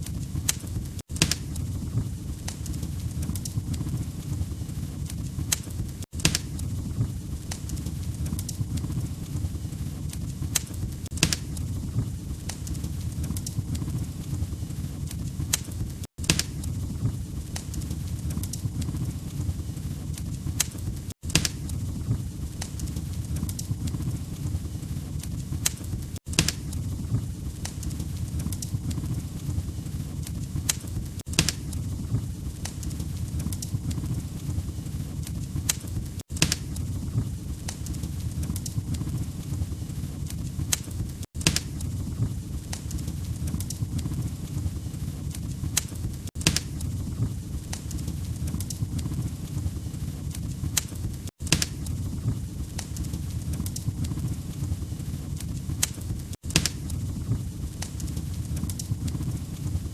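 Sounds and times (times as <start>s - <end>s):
fire pops and snaps: 0.0s - 59.9s
log fire rumbling: 0.0s - 59.9s.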